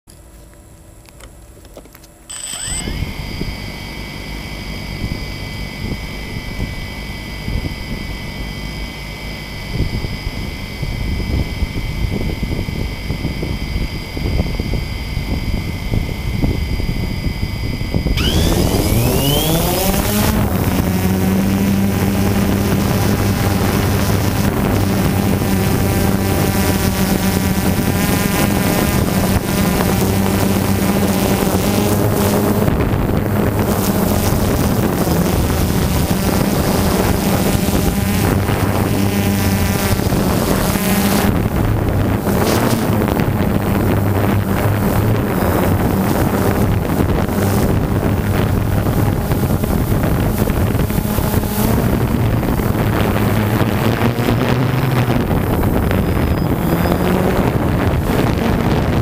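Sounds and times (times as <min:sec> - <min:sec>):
faint high whine: 0:00.1 - 0:59.0
drone propellers buzzing: 0:00.9 - 0:59.0
wind noise on microphone: 0:02.3 - 0:59.0.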